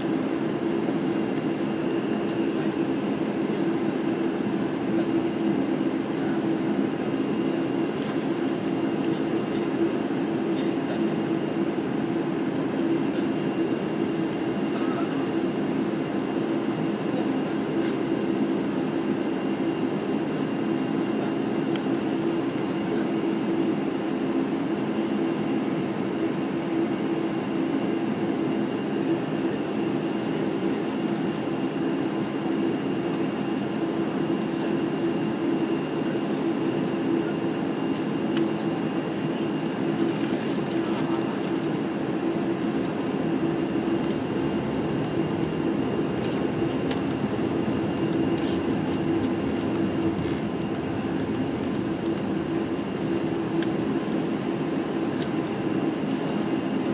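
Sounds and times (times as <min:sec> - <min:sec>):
aircraft engines humming in cabin: 0:00.0 - 0:56.9.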